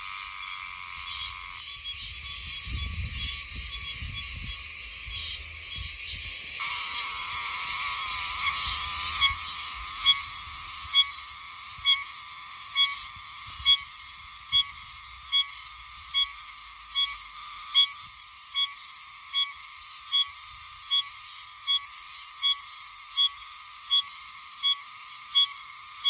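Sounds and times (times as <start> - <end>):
cicada high-pitched buzz: 0.0 - 26.0
cicada sharp rhythmic notes: 0.0 - 26.0.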